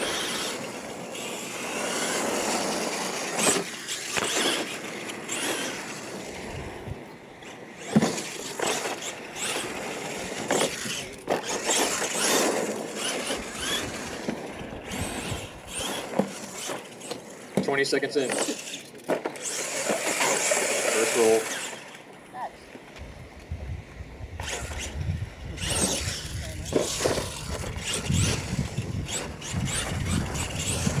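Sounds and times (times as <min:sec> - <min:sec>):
rc truck motors: 0:00.0 - 0:31.0.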